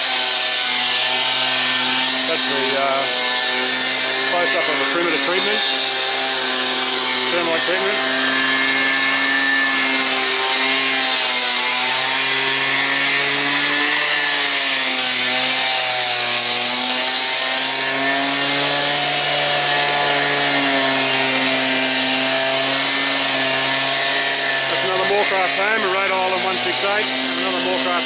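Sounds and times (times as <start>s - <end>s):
concrete saw cutting: 0.0s - 28.0s.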